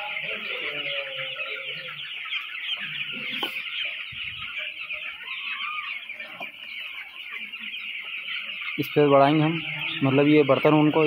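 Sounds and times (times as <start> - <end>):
chicks peeping and chirping: 0.0 - 11.0.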